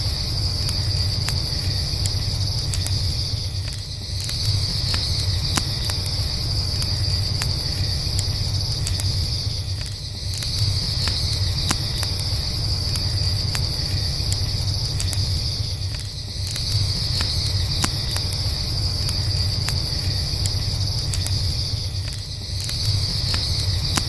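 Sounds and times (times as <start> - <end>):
campfire crackling and popping: 0.0 - 24.0
crickets chirping: 0.0 - 24.0.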